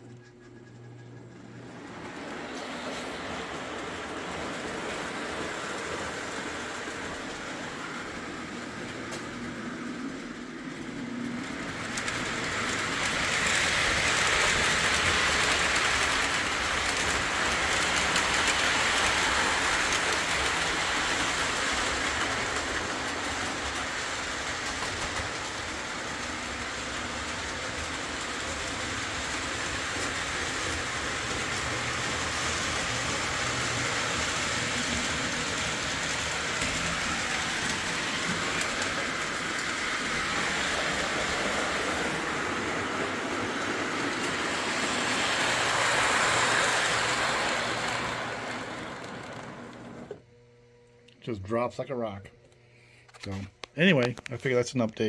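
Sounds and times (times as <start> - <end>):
toy train running on track: 0.2 - 50.2.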